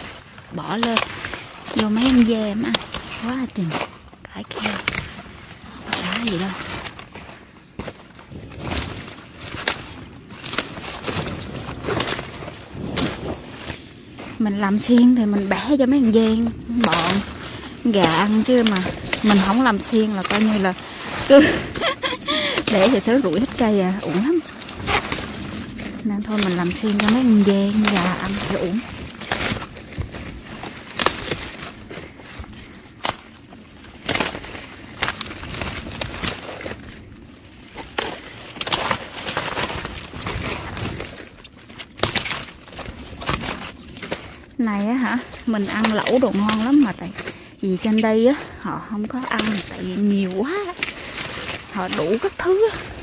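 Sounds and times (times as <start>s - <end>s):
kale leaves snapping: 0.0s - 53.0s
leafy rustling: 0.0s - 53.0s.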